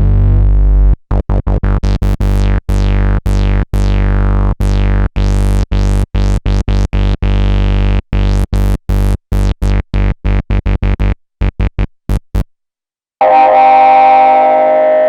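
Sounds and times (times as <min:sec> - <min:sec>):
synth bass line: 0:00.0 - 0:12.4.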